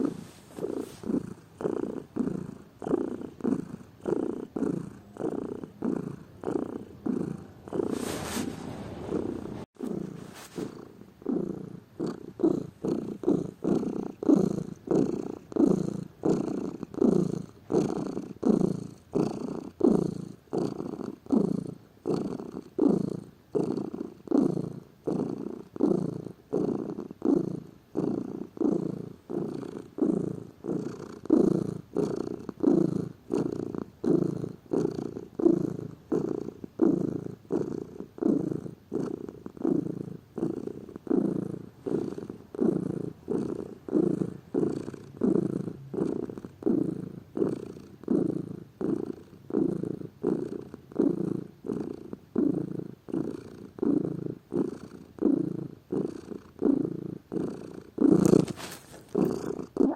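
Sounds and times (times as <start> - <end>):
cat purring: 0.0 - 59.9.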